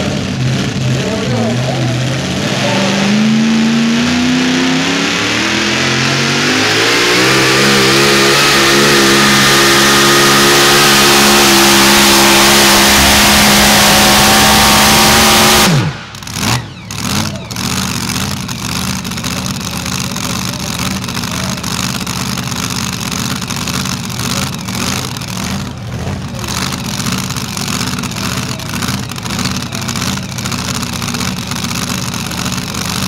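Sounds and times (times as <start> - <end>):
supercharged truck engine revving: 0.0 - 33.0.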